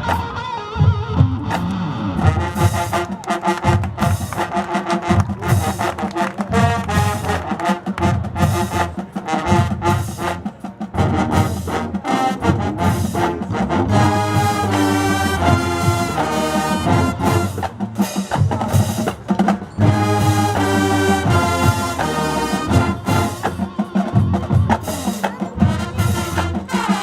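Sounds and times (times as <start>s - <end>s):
marching band brass: 0.0s - 27.0s
marching band drums: 0.0s - 27.0s.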